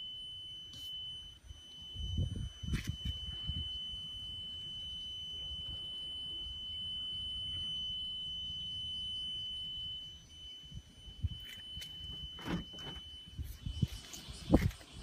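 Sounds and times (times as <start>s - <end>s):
high-pitched warning buzzer: 0.0s - 15.0s.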